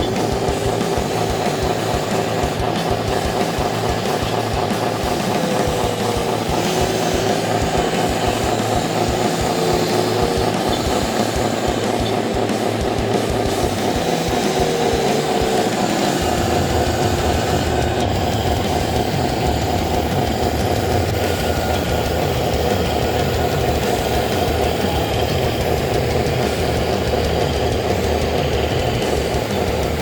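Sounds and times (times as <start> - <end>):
model engine running: 0.0 - 30.0.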